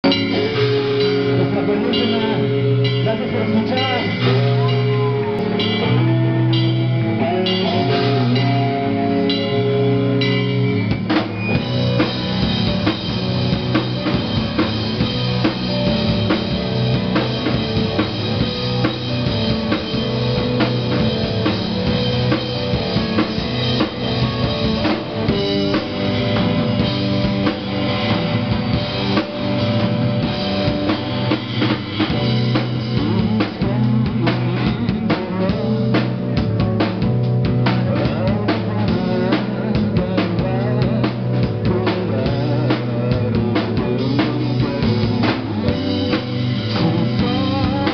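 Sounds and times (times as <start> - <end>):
drum kit: 0.0 - 47.9
electric guitars: 0.0 - 47.9.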